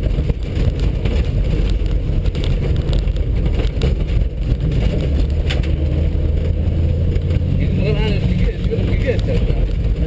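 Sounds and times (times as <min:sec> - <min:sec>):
car engine droning from inside: 0:00.0 - 0:10.0.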